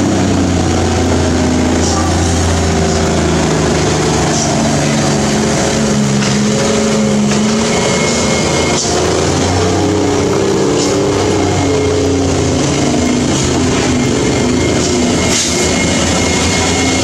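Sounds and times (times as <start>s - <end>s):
truck diesel engine: 0.0s - 17.0s.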